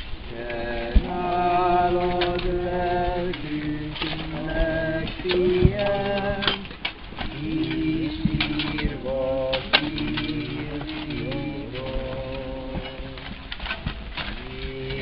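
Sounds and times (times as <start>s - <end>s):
mourners singing a slow hymn: 0.0s - 15.0s.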